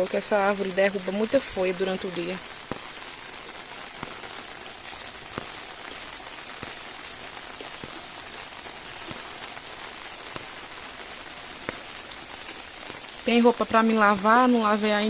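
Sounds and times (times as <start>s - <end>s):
drops splashing: 0.0s - 14.4s
steady rain falling: 0.0s - 15.0s.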